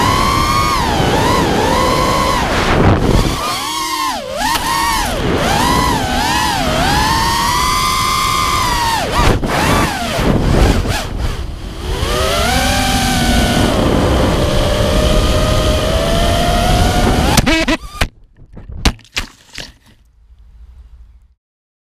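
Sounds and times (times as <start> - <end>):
drone motors whining: 0.0 - 18.1
wind noise: 0.0 - 19.0.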